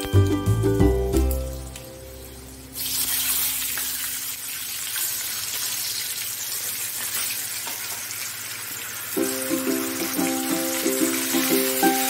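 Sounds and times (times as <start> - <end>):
water sizzling in hot oil: 0.0 - 12.0.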